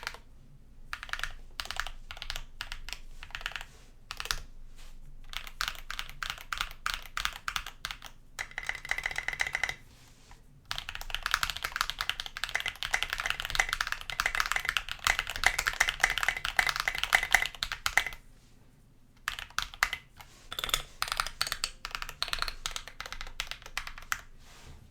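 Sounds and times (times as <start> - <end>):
mechanical keyboard typing: 0.0 - 0.2, 0.9 - 4.4, 5.3 - 9.8, 10.7 - 18.2, 19.2 - 24.3.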